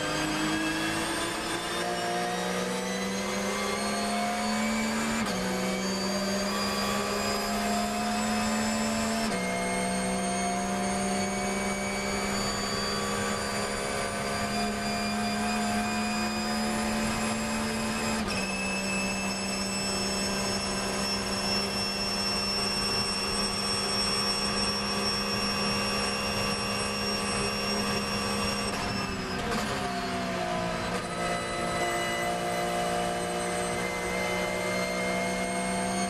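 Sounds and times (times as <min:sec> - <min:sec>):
racing engine at high speed: 0:00.0 - 0:36.0.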